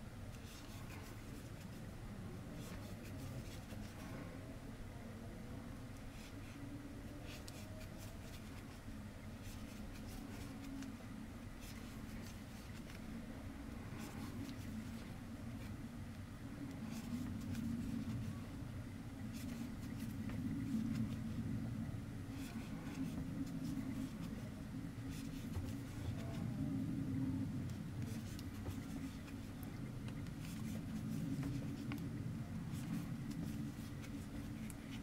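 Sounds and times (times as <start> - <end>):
crochet hook yarn rustling: 0.0 - 1.8, 2.6 - 4.3, 6.0 - 13.2, 13.8 - 21.4, 22.2 - 35.0
low background hum: 0.0 - 35.0.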